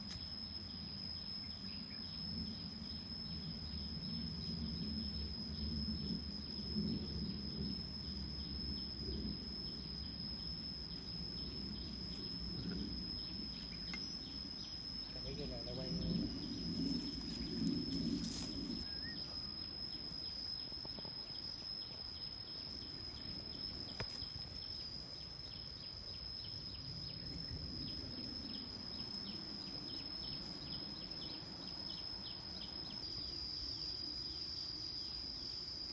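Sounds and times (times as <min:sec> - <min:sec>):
insects shrilling: 0:00.0 - 0:35.9.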